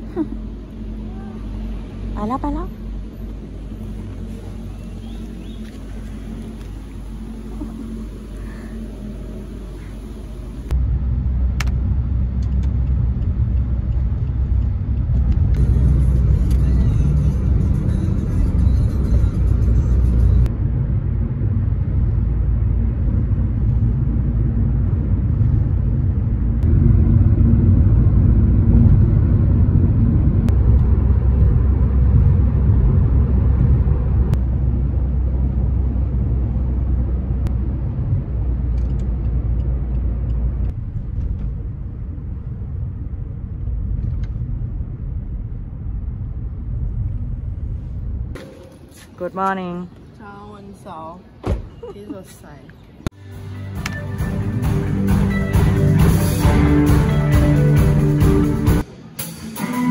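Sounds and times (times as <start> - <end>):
car road noise inside cabin: 0.0 - 48.9.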